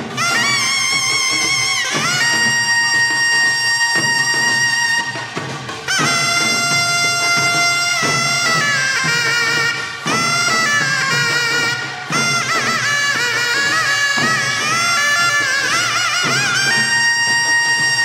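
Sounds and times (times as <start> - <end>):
shawm playing reedy melody: 0.0 - 18.0.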